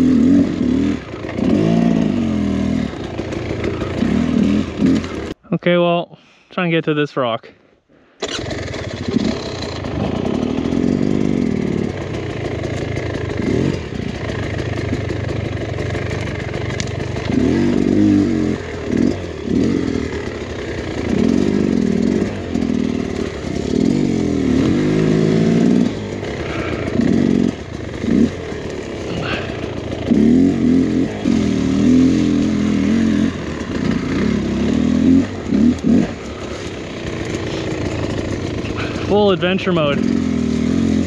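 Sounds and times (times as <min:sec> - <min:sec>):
dirt bike engine revving: 0:00.0 - 0:05.4, 0:08.2 - 0:41.0.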